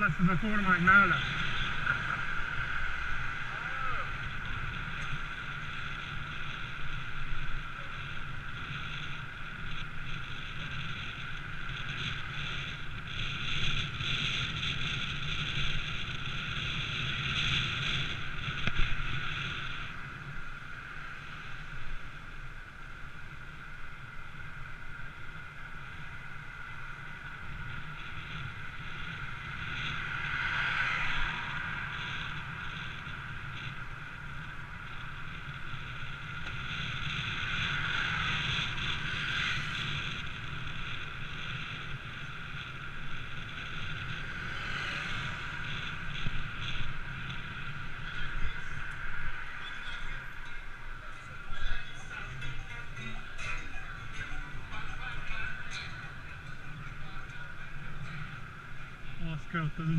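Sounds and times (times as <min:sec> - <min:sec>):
high whine: 0:00.0 - 0:59.9
wind rushing over microphone: 0:00.0 - 0:59.9.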